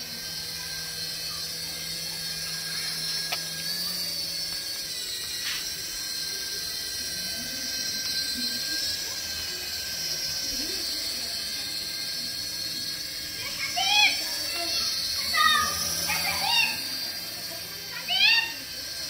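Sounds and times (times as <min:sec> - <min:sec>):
toy helicopter rotors whining: 0:00.0 - 0:19.0.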